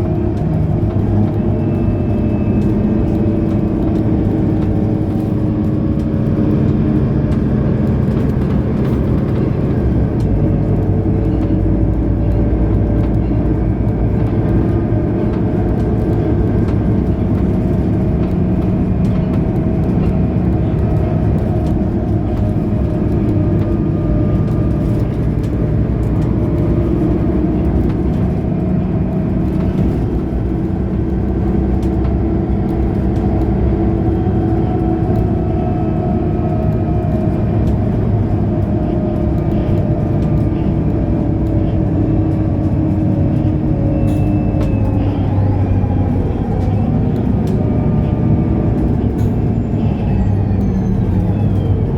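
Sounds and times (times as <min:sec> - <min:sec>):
bus diesel engine from inside: 0:00.0 - 0:51.9.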